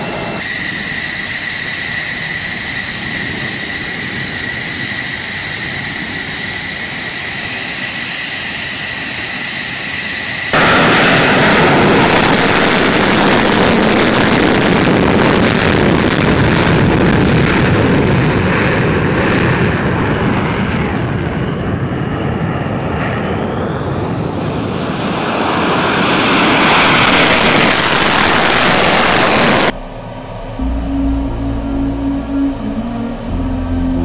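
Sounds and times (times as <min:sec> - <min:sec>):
fighter jet engines roaring: 0:00.0 - 0:34.0.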